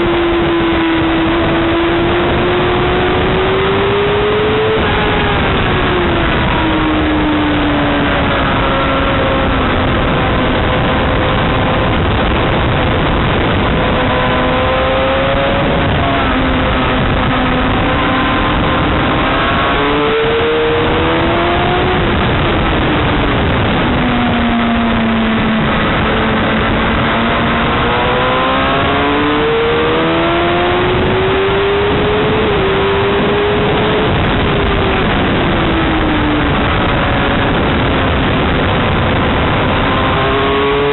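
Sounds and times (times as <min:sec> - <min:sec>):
motorcycle engine revving: 0:00.0 - 0:40.9
steady rushing noise: 0:00.0 - 0:40.9.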